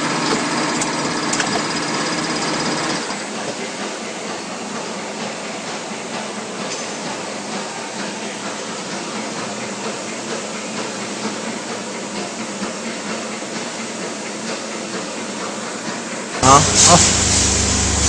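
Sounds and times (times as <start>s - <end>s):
machine hiss: 2.9s - 18.0s.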